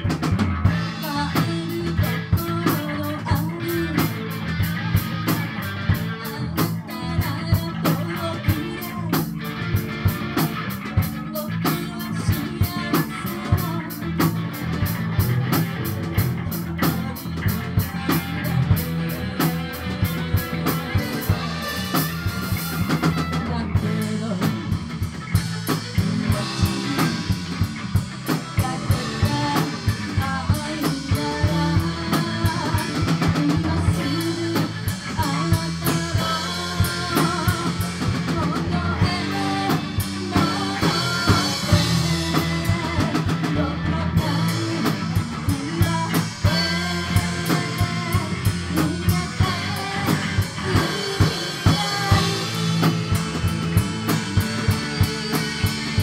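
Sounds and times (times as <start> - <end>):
drum kit beat: 0.0 - 56.0
electric bass: 0.0 - 56.0
electric guitar: 0.0 - 56.0.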